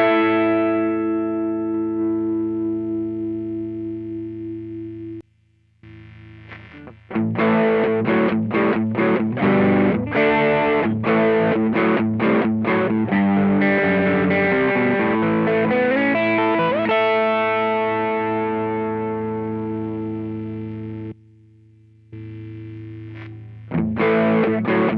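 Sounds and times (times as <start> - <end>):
overdriven electric guitar riff: 0.0 - 5.2, 5.8 - 24.9.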